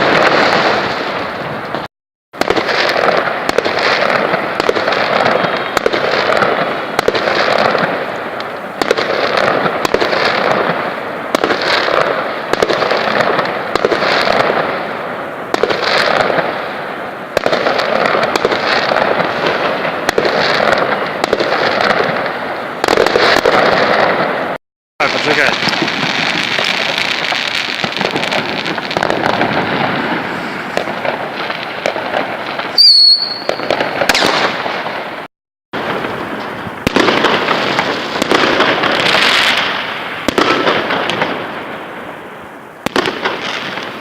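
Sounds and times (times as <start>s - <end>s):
fireworks banging and crackling: 0.0s - 44.0s.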